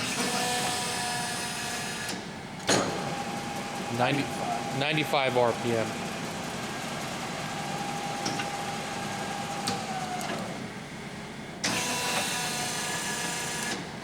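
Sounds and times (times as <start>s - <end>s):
lathe running with gear whine: 0.0s - 14.0s.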